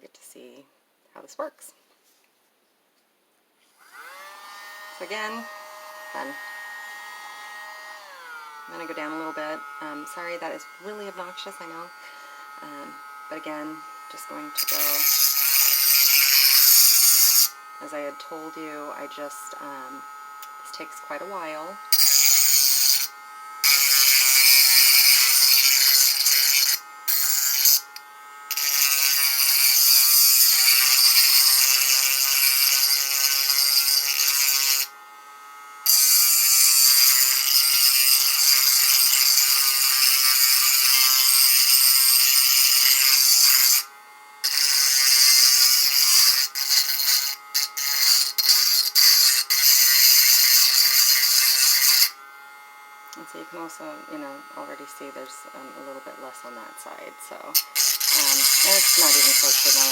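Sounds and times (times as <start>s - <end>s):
rotary carving tool whining: 3.6s - 59.9s.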